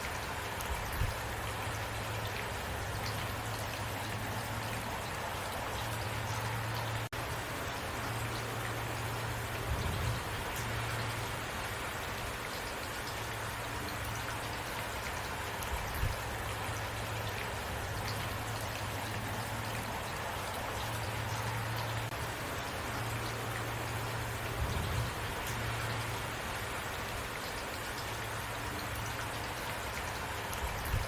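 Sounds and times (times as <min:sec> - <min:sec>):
constant low rumble: 0:00.0 - 0:31.0
raindrops ticking: 0:00.0 - 0:31.0
steady rain hiss: 0:00.0 - 0:31.0.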